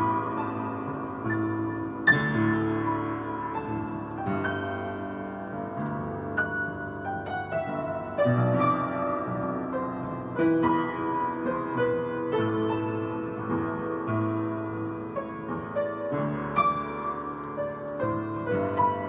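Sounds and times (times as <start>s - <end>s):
slow piano ballad: 0.0s - 19.0s.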